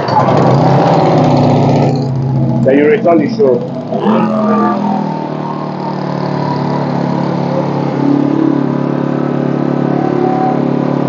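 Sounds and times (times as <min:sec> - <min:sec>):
small petrol generator running: 0:00.0 - 0:11.0.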